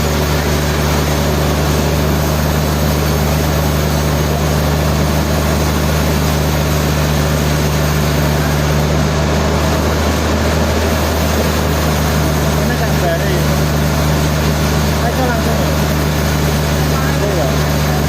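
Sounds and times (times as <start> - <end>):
sawmill machinery humming: 0.0 - 18.0.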